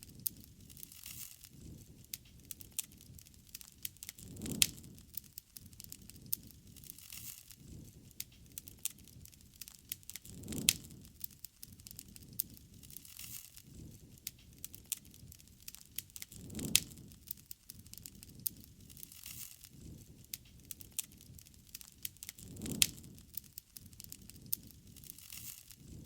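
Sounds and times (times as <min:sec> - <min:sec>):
fire pops and snaps: 0:00.0 - 0:26.0
wood fire crackling: 0:00.0 - 0:26.0.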